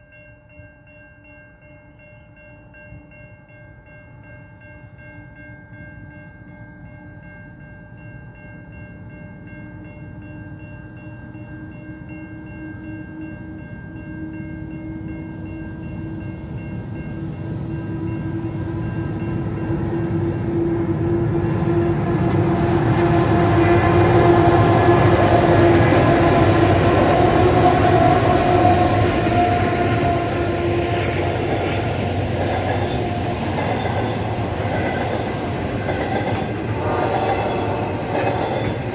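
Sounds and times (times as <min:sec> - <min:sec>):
train passing: 0:02.7 - 0:38.9.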